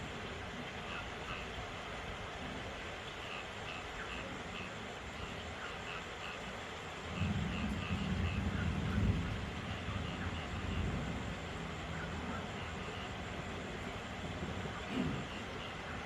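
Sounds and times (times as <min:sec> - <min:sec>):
frogs chirping: 0:00.0 - 0:16.0
steady rain: 0:00.0 - 0:16.0.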